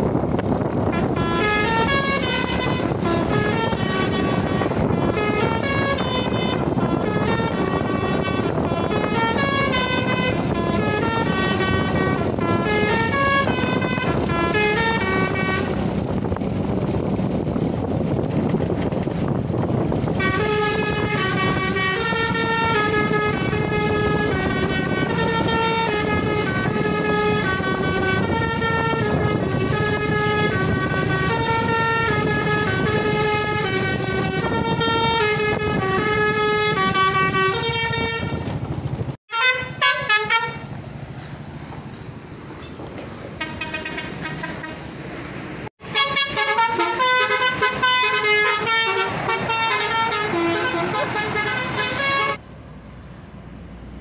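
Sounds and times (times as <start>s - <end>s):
low traffic rumble: 0.0s - 54.0s
bus horn playing melody: 0.6s - 16.3s, 20.0s - 38.6s, 39.3s - 40.8s, 43.4s - 44.9s, 45.8s - 52.4s.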